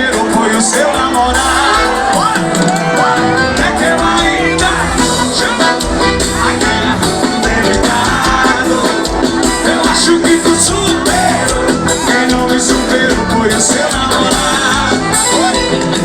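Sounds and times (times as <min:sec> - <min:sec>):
live folk dance music: 0:00.0 - 0:16.0
person singing: 0:00.0 - 0:16.0
steady drum beat: 0:00.0 - 0:16.0.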